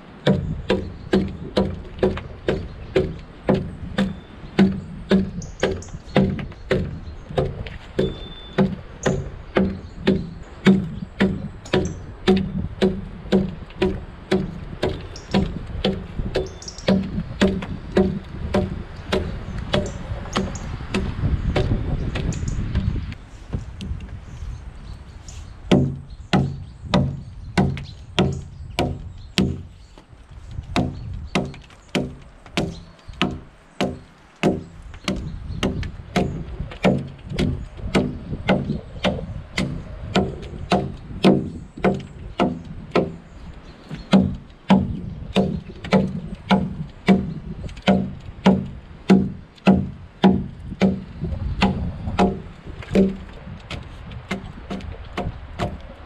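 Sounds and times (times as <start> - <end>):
axe chopping log: 0.2 - 22.9, 25.7 - 29.7, 30.6 - 43.3, 43.9 - 55.8.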